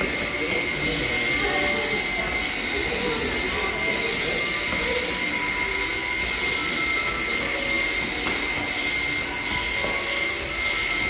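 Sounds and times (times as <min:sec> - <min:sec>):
electric clippers whining: 0:00.0 - 0:11.0.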